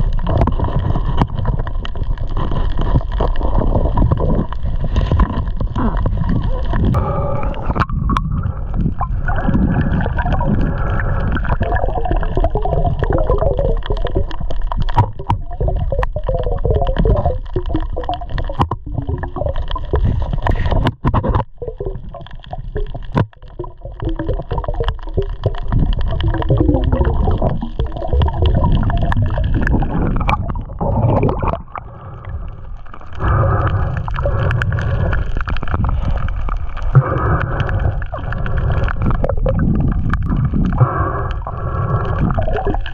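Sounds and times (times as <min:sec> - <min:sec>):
continuous low rumble: 0:00.0 - 0:42.9
water gurgling and sloshing: 0:00.0 - 0:42.9.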